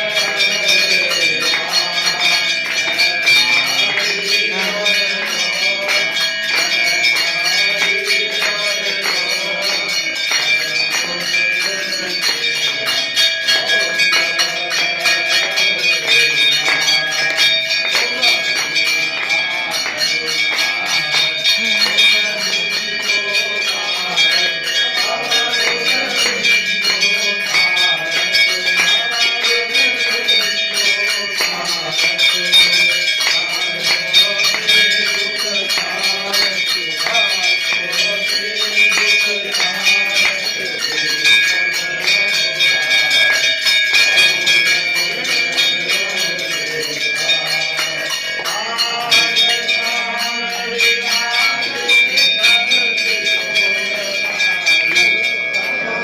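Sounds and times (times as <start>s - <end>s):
group of voices singing: 0.0s - 56.0s
temple bells ringing rapidly: 0.0s - 56.0s.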